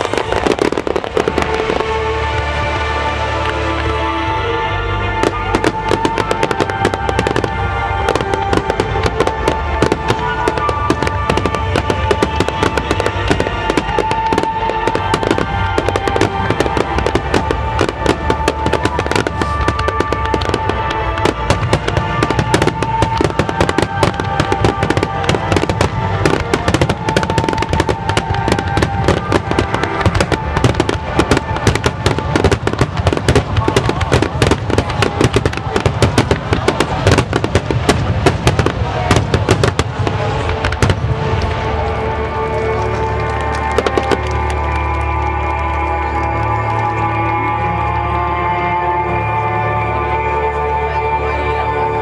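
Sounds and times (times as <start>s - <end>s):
fireworks bangs and crackles: 0.0s - 52.0s
music: 0.0s - 52.0s.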